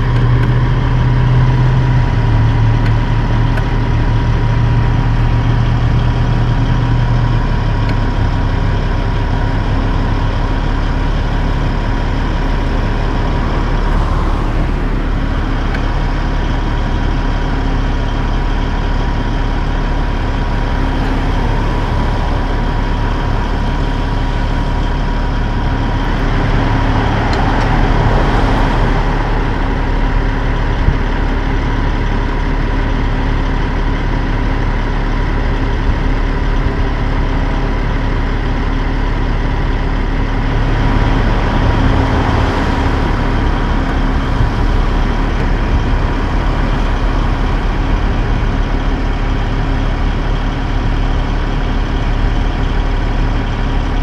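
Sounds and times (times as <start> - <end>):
diesel truck engine idling: 0.0 - 54.0
thin steady whine: 0.0 - 54.0.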